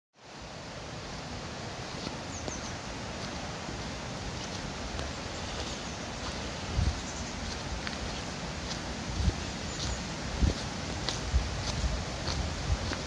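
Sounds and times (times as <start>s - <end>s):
rushing outdoor background noise: 0.2s - 13.0s.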